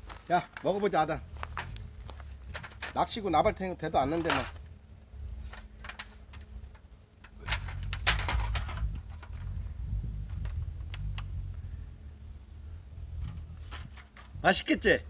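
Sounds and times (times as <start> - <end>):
wind rumble on microphone: 1.2 - 6.8, 7.4 - 15.0.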